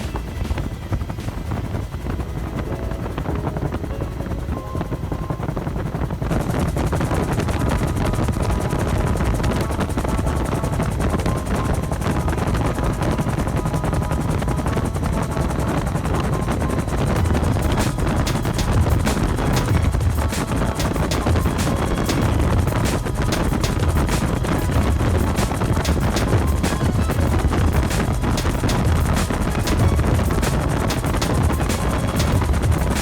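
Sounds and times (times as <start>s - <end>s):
helicopter rotor beat: 0.0s - 33.0s
turbine running steadily: 0.0s - 33.0s.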